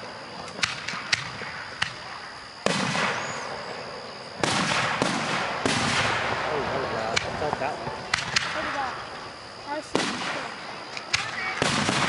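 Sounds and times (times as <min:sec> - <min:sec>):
fireworks exploding: 0:00.0 - 0:12.0
trailing fireworks crackle: 0:00.0 - 0:12.0.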